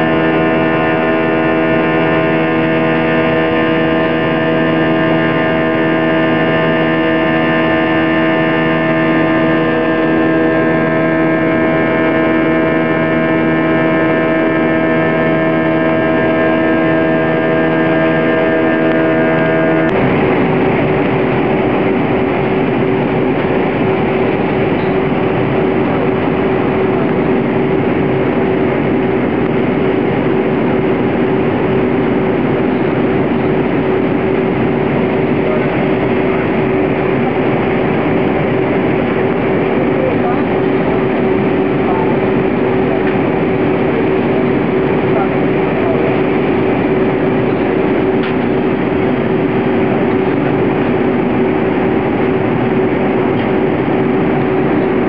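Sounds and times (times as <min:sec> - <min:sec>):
jet engine cabin drone: 0:00.0 - 0:55.0.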